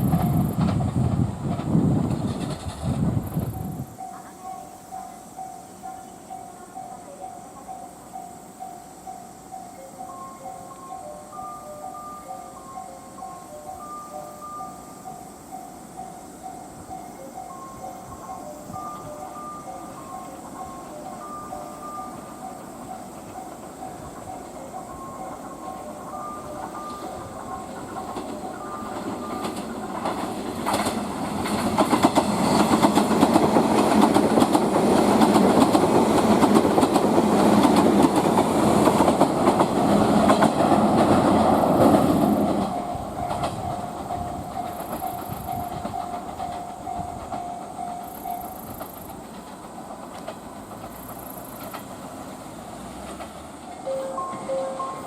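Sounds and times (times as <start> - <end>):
train wheels clicking over rail joints: 0.0 - 6.8, 8.6 - 55.0.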